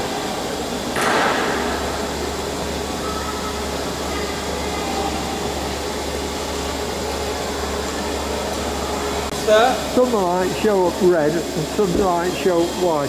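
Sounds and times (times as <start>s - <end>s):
machine whirring: 0.0s - 13.0s.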